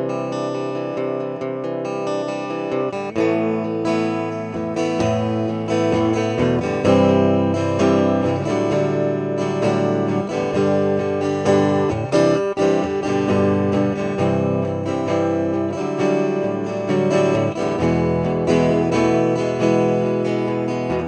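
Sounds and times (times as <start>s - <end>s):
clean electric guitar playing: 0.0s - 21.0s.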